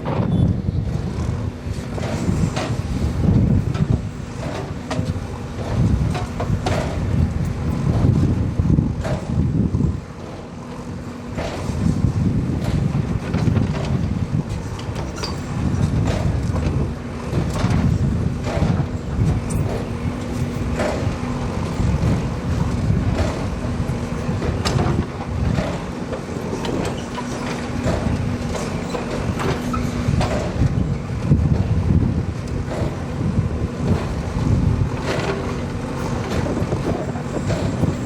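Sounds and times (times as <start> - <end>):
diesel engine running: 0.0 - 38.0
machine knocks and clanks: 0.0 - 38.0.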